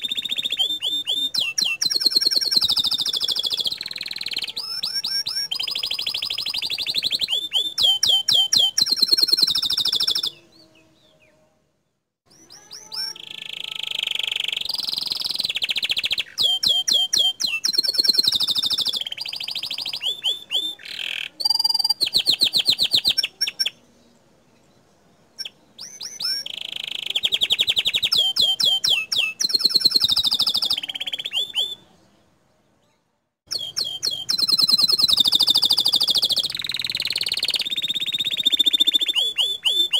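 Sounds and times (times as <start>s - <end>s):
canary singing trills: 0.0s - 11.4s, 12.3s - 24.2s, 25.3s - 32.2s, 33.5s - 39.9s.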